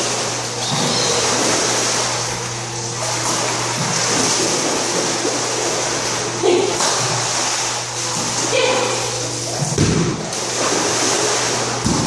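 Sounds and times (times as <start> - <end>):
dog splashing through water: 0.0 - 12.0
pool water churning: 0.0 - 12.0
steady low hum: 0.0 - 12.0.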